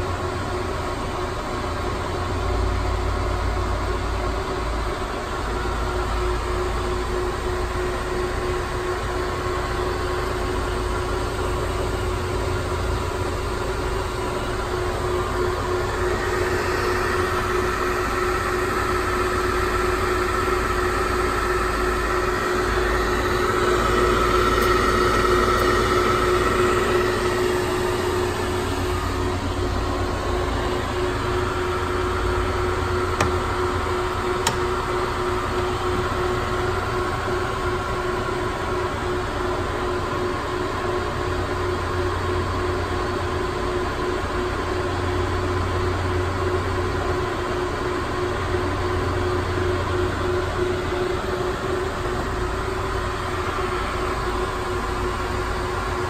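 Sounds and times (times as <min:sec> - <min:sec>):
lathe motor humming and whining: 0:00.0 - 0:56.0.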